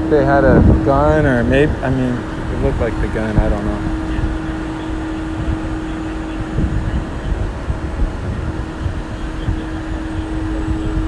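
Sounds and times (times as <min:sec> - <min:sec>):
droning hum: 0:00.0 - 0:11.0
traffic rumble: 0:00.0 - 0:11.0.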